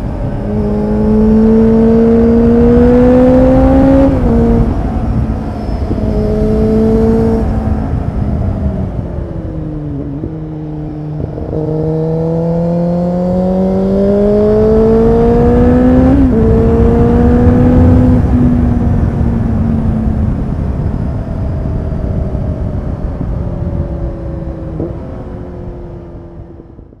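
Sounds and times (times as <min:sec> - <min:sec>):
motorcycle accelerating through gears: 0:00.0 - 0:27.0
wind rush: 0:00.0 - 0:27.0.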